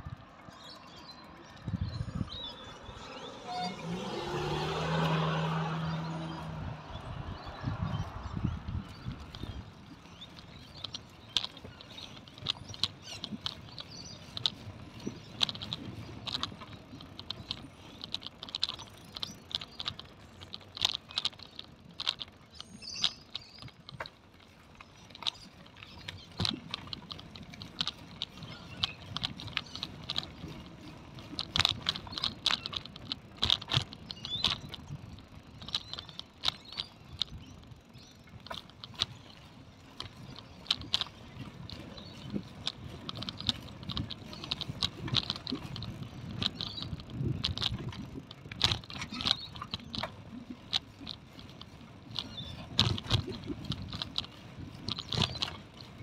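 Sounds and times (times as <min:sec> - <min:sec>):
bicycle rattling: 0:00.0 - 0:56.0.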